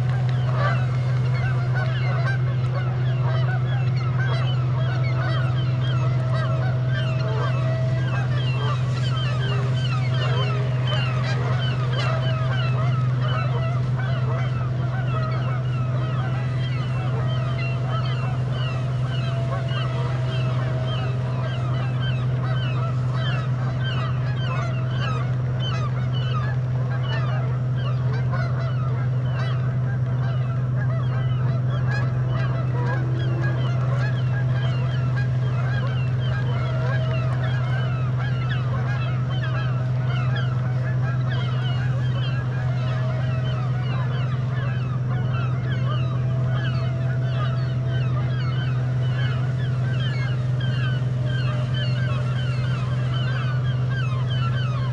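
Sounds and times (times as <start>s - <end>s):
geese honking: 0.0s - 54.9s
steady low drone: 0.0s - 54.9s.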